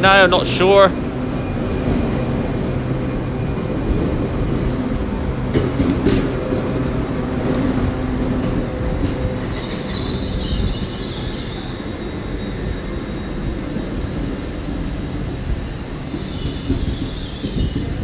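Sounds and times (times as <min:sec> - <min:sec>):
train rumbling: 0:00.0 - 0:18.0
train wheels squealing on rails: 0:00.0 - 0:18.0.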